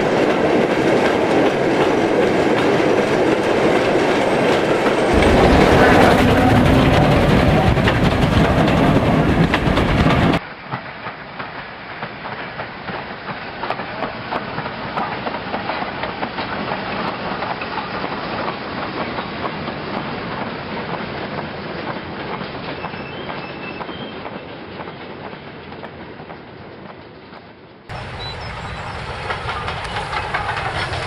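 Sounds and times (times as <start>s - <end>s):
wheels clicking over rail joints: 0.0s - 27.5s, 29.0s - 31.0s
model steam locomotive passing: 0.0s - 31.0s.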